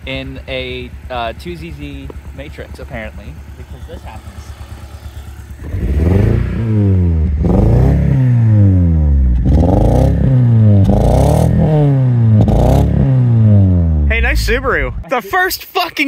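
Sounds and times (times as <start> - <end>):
car engine revving from idle: 0.0 - 15.0.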